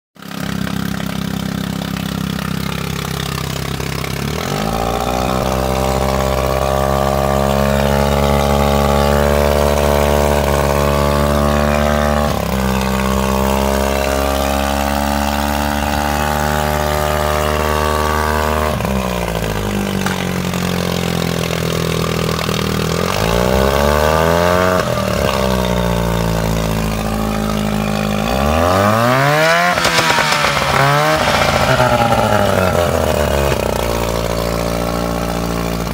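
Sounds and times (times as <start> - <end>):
outboard motor revving: 0.2 - 35.9
water spraying: 0.2 - 35.9.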